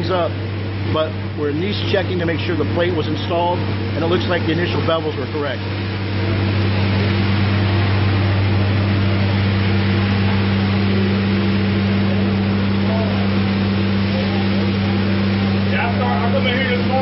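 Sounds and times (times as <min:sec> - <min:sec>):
machinery drone: 0:00.0 - 0:17.0.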